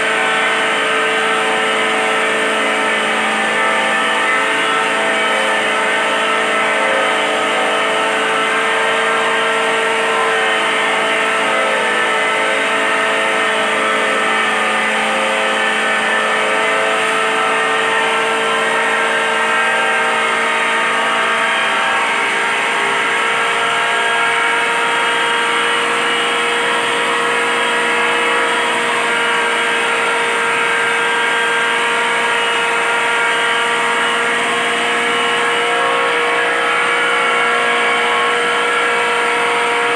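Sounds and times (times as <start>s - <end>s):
grinding machine whining: 0.0s - 39.9s.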